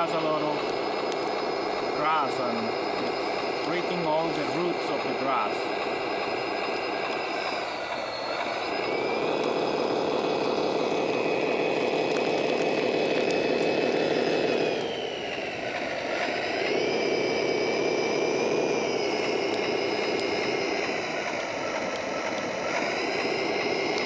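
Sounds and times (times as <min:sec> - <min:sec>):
electric gear motors whining: 0:00.0 - 0:24.0.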